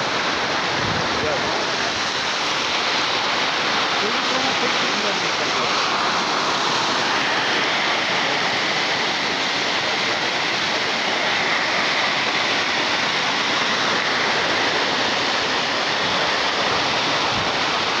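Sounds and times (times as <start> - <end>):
waterfall rushing over rock: 0.0 - 18.0.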